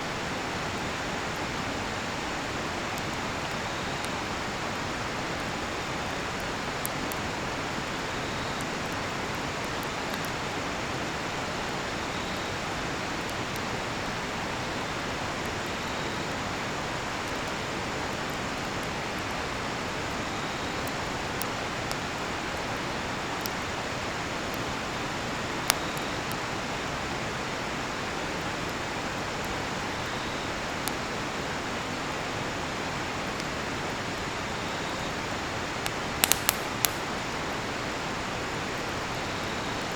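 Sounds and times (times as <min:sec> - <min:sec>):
faint cricket chirp: 0:00.0 - 0:39.9
campfire crackling and popping: 0:00.4 - 0:39.9.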